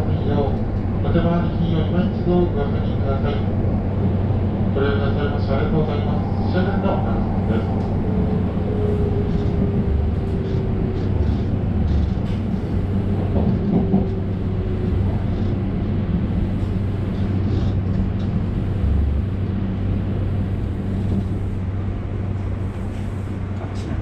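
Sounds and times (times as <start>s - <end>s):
railcar engine hum: 0.0s - 24.0s
rolling rail noise: 0.0s - 24.0s.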